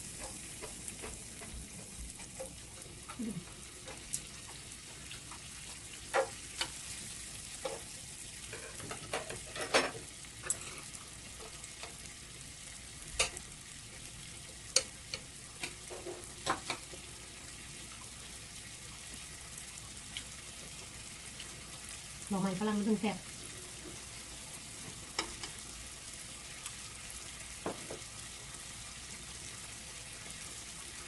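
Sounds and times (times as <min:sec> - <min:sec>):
meat and shrimp sizzling in a pan: 0:00.0 - 0:31.0.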